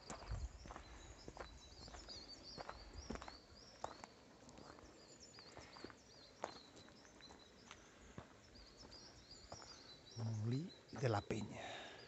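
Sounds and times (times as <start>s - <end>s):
faint birdsong warbling: 0.0s - 12.0s.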